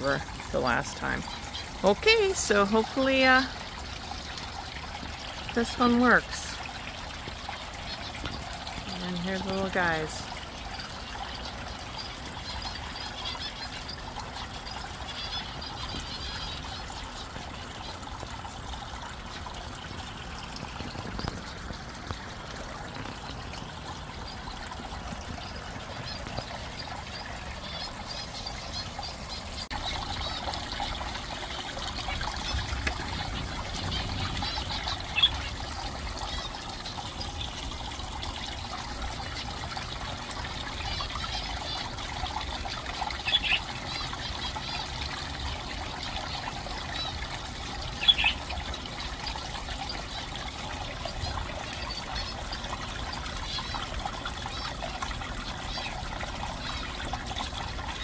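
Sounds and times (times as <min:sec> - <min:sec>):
small birds chirping: 0:00.0 - 0:18.0, 0:20.6 - 0:58.0
water splashing over rocks: 0:00.0 - 0:58.0.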